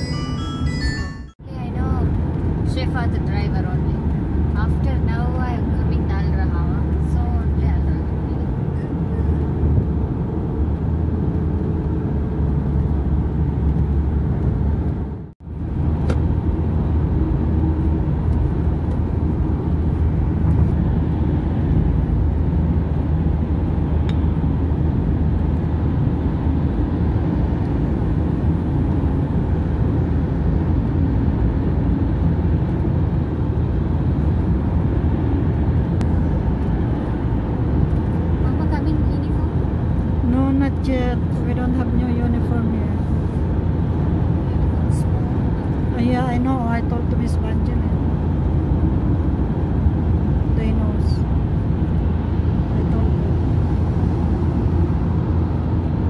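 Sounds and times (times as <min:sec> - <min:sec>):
road and tyre rumble: 0:00.0 - 0:56.0.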